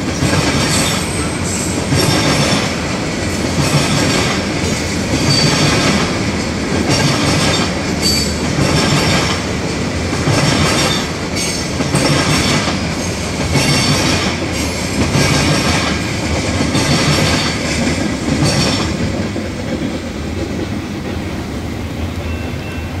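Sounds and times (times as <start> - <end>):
low train rumble: 0.0 - 23.0
train wheels clattering on rails: 0.0 - 23.0.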